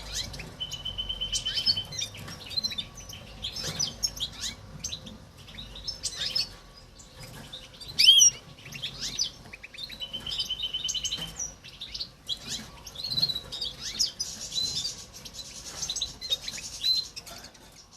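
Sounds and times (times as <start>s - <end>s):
bird trill: 0.0s - 17.9s
small birds chirping and twittering: 0.0s - 17.9s.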